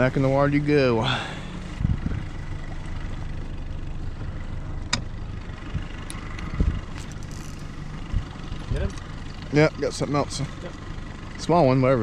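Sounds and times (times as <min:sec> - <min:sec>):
boat motor idling: 0:00.0 - 0:12.0.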